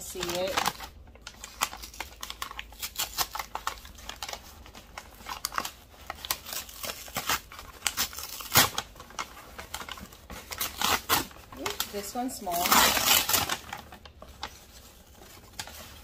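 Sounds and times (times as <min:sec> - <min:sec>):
paper crinkling and rustling: 0:00.0 - 0:16.0.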